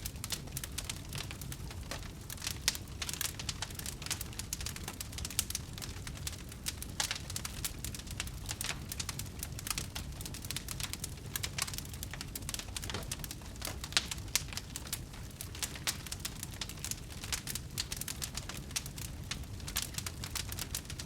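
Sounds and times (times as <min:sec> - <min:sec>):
low rumble of fire: 0:00.0 - 0:21.0
wood fire crackling: 0:00.0 - 0:21.0.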